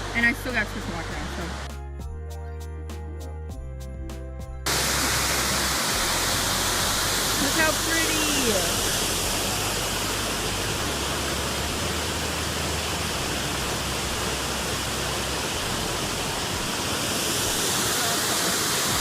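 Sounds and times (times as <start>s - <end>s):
waterfall rushing: 0.0s - 1.7s, 4.7s - 19.0s.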